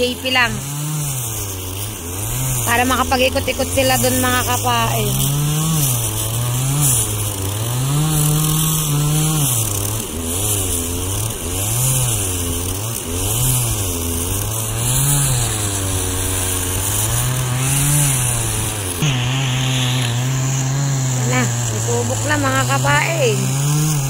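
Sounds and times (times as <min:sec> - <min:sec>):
small boat engine running: 0:00.0 - 0:24.0.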